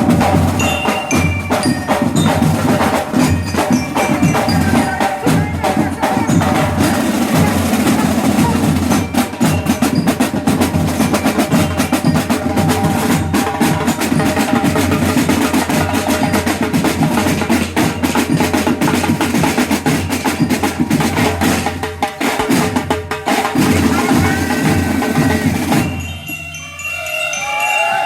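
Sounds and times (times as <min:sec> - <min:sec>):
snare drum rolls: 0:00.0 - 0:26.0
heavy drum beats: 0:00.0 - 0:26.7.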